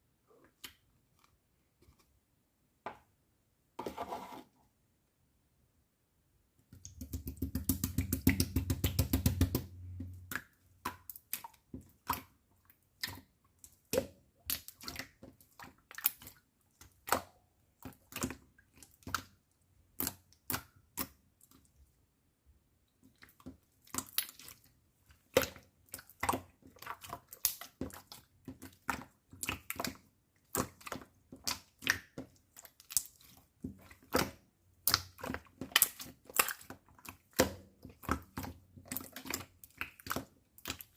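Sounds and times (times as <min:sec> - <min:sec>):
slime squishing with wet pops: 0:06.6 - 0:21.8, 0:22.9 - 0:40.9.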